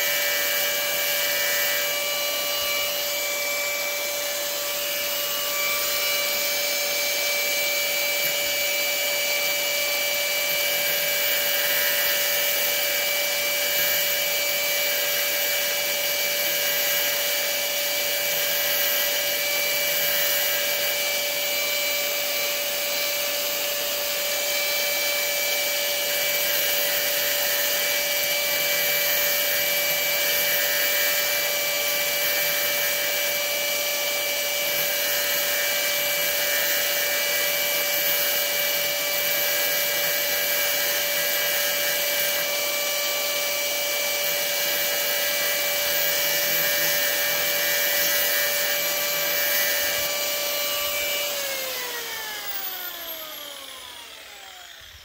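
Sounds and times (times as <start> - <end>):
power grinder grinding steel: 0.0 - 55.0.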